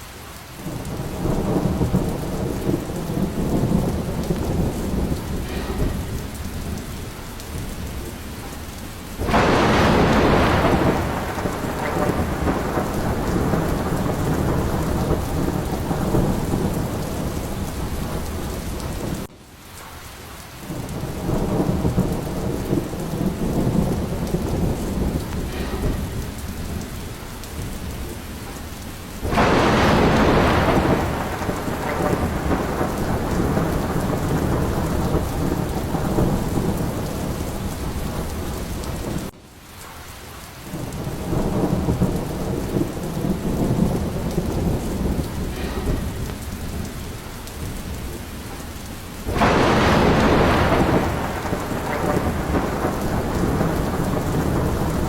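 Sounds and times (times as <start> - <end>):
rolling thunder: 0.0 - 19.3, 20.6 - 39.4, 40.6 - 55.0
steady rain: 0.0 - 55.0
sharp thunderclap: 0.6 - 19.3, 20.7 - 39.4, 40.7 - 55.0.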